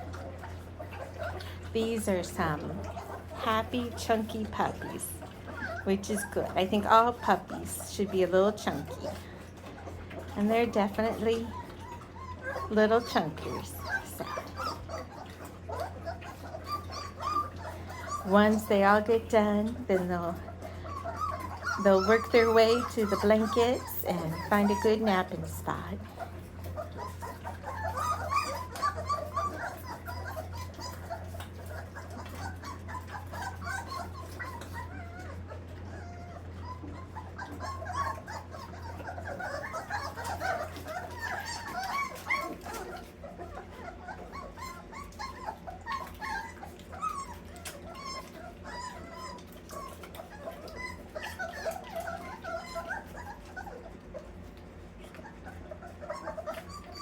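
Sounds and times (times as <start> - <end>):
puppies whimpering and squeaking: 0.0 - 57.0.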